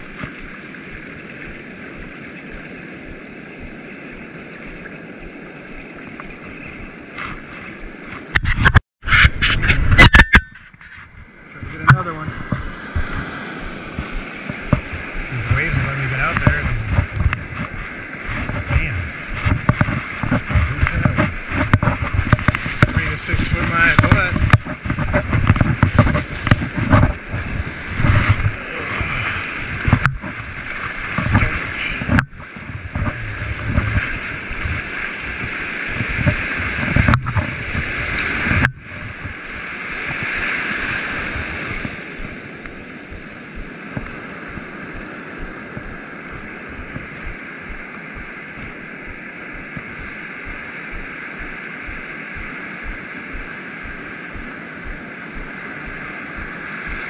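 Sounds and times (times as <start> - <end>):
wind buffeting microphone: 0.0 - 57.0
surf breaking in shallows: 10.9 - 57.0.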